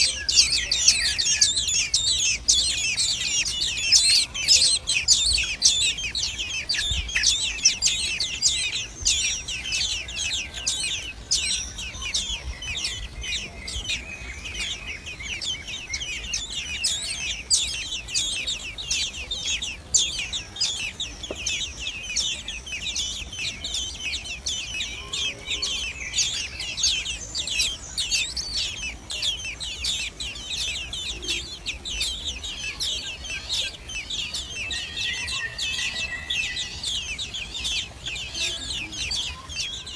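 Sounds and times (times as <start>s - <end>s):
nestlings cheeping: 0.0s - 39.9s.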